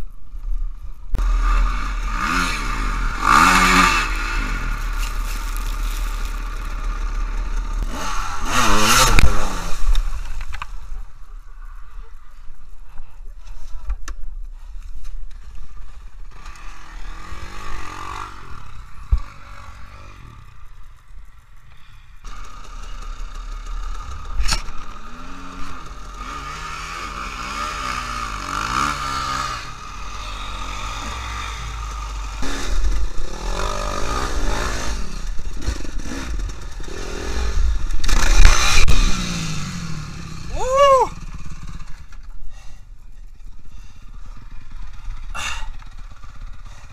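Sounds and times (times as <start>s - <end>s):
dirt bike engines revving: 0.3s - 12.6s, 15.7s - 46.9s.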